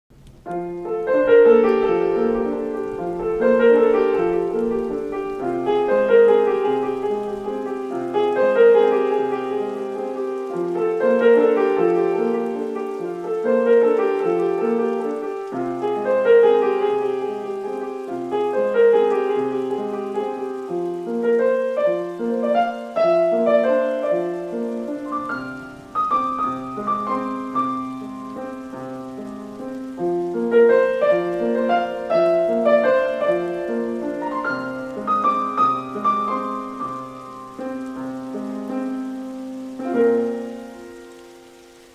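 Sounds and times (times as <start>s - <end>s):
solo piano arpeggios: 0.1s - 41.9s.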